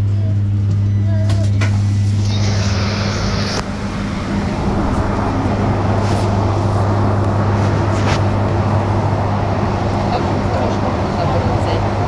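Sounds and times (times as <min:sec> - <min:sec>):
electric bus hum: 0:00.0 - 0:12.0
road noise rumble: 0:00.0 - 0:12.0.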